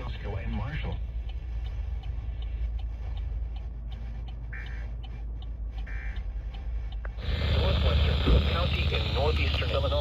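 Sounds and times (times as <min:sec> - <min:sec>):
faint even ticking: 0:00.0 - 0:10.0
steady low rumble: 0:00.0 - 0:10.0.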